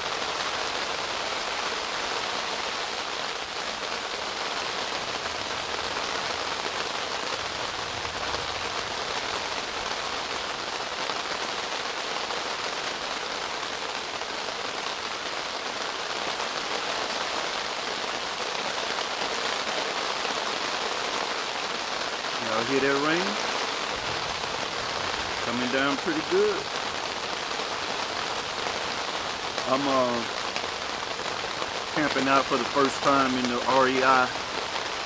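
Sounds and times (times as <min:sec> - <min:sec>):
heavy rain on a tent: 0:00.0 - 0:35.0.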